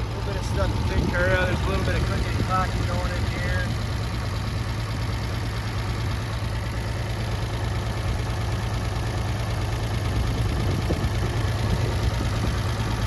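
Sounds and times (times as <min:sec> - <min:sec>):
engine clicking and tapping: 0:00.0 - 0:13.0
tractor engine idling: 0:00.0 - 0:13.0.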